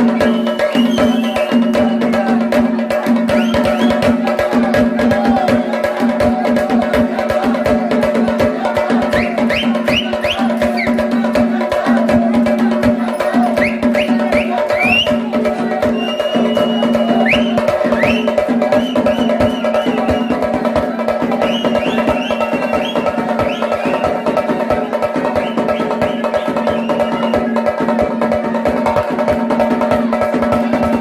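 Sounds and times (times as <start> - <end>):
drums beating fast: 0.0 - 31.0.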